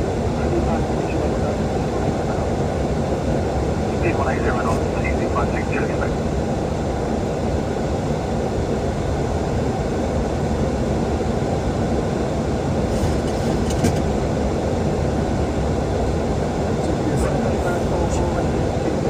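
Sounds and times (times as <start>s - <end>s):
air-conditioning noise: 0.0s - 19.0s
airflow and engine rushing: 0.0s - 19.0s.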